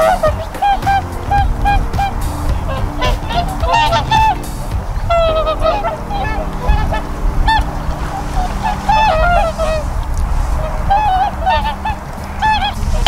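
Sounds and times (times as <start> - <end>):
swans honking: 0.0 - 13.0.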